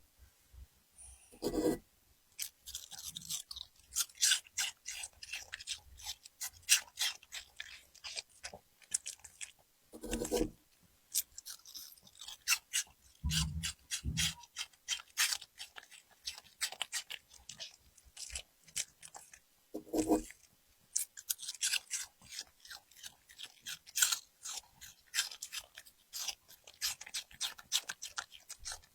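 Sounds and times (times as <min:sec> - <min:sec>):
puppy crunching food: 0:02.4 - 0:28.9.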